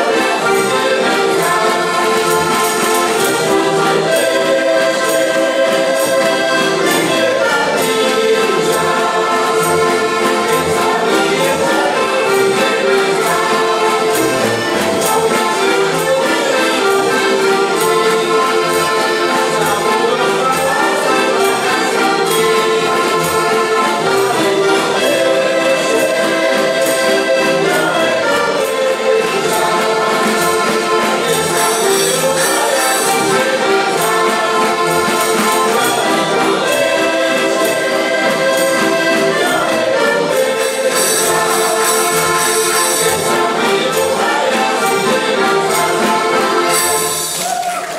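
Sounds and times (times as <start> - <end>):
accordions playing folk song: 0.0 - 47.9.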